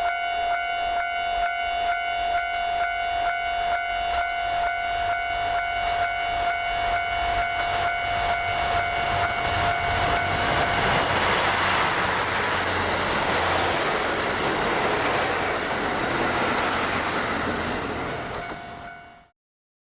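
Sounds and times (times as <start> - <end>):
level crossing warning bell: 0.0 - 12.6, 14.8 - 19.3
train passing: 0.0 - 19.3.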